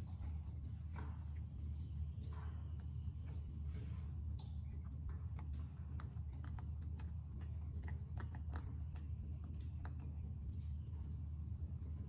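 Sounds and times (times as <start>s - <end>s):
monkey chewing and smacking: 0.0s - 12.0s
steady low hum: 0.0s - 12.0s.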